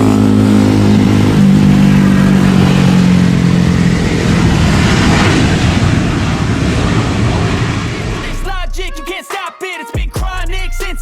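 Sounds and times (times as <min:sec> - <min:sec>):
engine revving high: 0:00.0 - 0:09.1.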